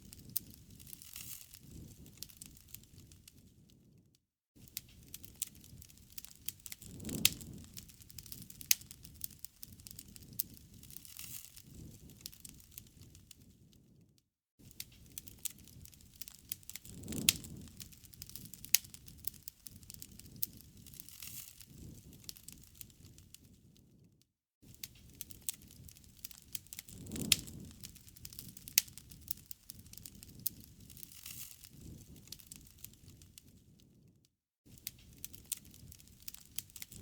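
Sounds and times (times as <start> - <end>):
wood fire crackling: 0.0 - 4.0, 4.6 - 24.0, 24.6 - 34.1, 34.7 - 37.0.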